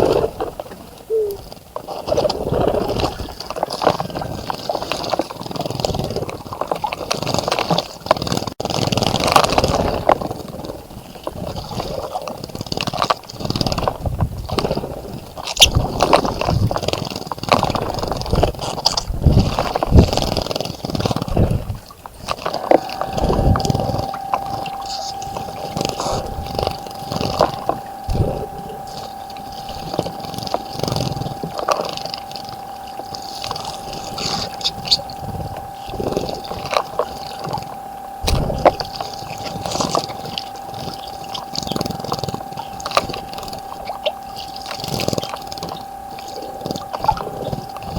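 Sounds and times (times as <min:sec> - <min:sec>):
steady high hum: 0:00.0 - 0:47.9.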